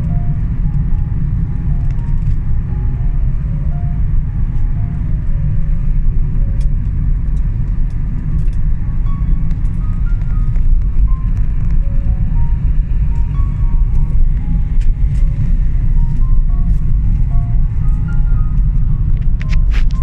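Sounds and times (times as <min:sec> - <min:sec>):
keyboard melody: 0:00.0 - 0:20.0
loud low rumble: 0:00.0 - 0:20.0.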